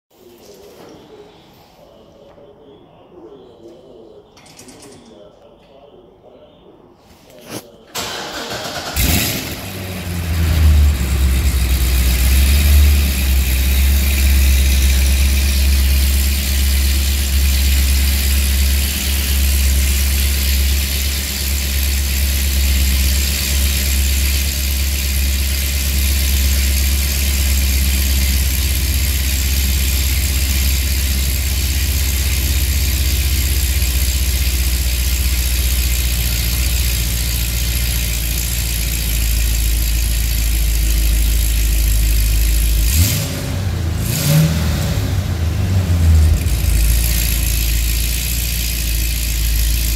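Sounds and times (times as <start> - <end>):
car engine starting and idling: 7.4 - 49.9.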